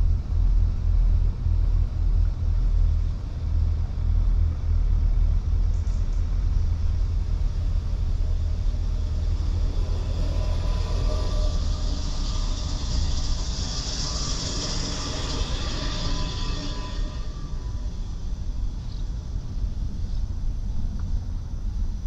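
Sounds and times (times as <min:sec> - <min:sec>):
faint whine: 0:00.0 - 0:22.0.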